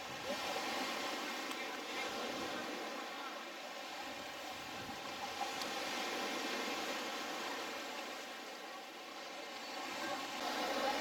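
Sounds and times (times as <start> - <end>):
seaside ambience hiss: 0.0 - 11.0.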